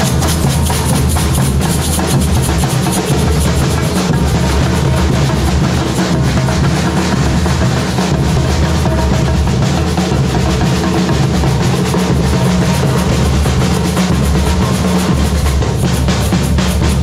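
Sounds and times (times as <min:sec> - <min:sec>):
bass drums: 0:00.0 - 0:17.0
snare drums: 0:00.0 - 0:17.0.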